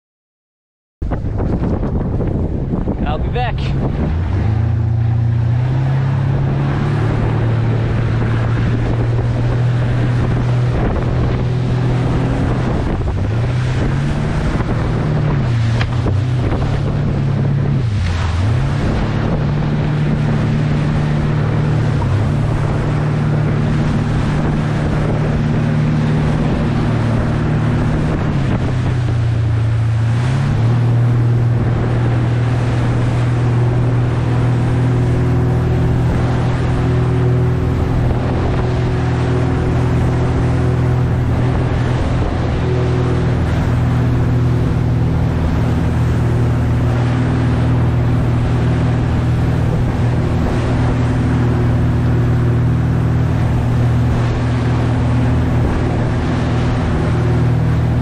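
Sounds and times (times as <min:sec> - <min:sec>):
boat engine running: 0:01.0 - 0:58.0
water rushing past hull: 0:01.0 - 0:58.0
wind buffeting microphone: 0:01.0 - 0:58.0.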